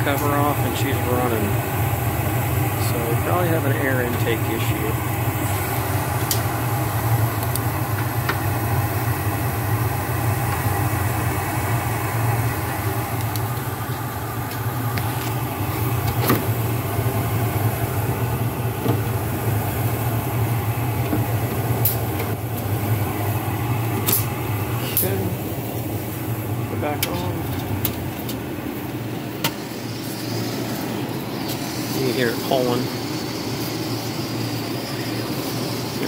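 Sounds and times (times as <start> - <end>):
furnace motor humming: 0.0 - 36.0.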